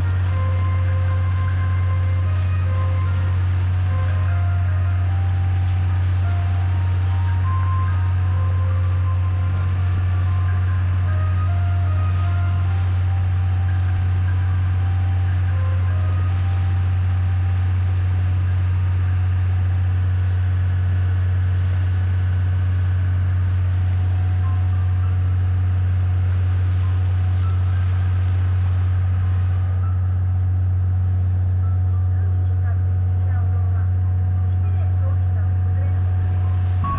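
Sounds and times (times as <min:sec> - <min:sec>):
boat engine droning: 0:00.0 - 0:36.9.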